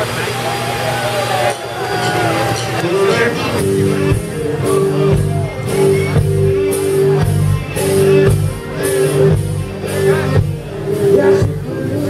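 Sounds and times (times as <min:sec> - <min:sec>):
bass: 0:00.0 - 0:12.0
electric guitar: 0:00.0 - 0:12.0
live band over pa: 0:00.0 - 0:12.0.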